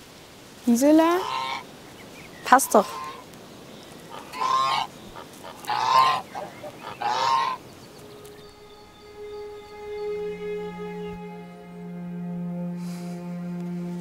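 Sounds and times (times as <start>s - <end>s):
soft held music tones: 0.0s - 14.0s
geese honking: 1.0s - 1.7s, 2.5s - 3.4s, 4.0s - 14.0s.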